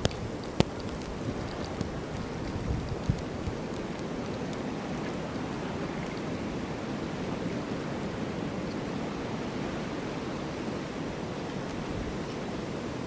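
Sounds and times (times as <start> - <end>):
snowstorm wind blowing: 0.0 - 13.0.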